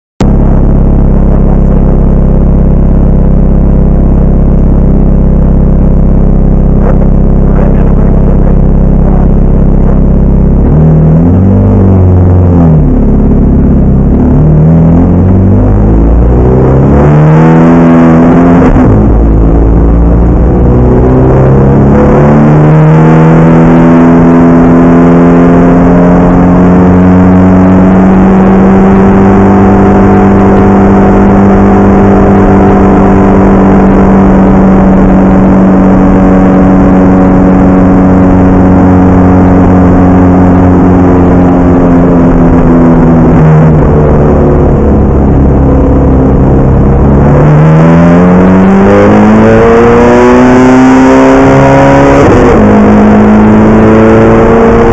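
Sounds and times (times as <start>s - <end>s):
car engine at full throttle: 0.0s - 54.9s.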